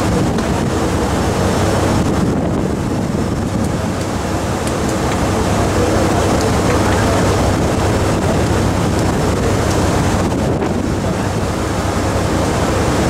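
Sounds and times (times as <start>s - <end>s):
boat engine hum: 0.0s - 13.0s
water wash: 0.0s - 13.0s
wind buffeting microphone: 0.0s - 13.0s.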